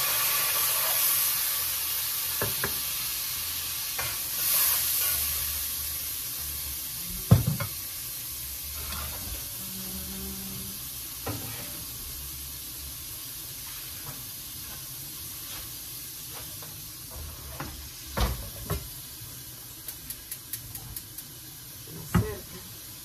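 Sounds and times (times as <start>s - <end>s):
peppers sizzling in frying pan: 0.0s - 23.0s.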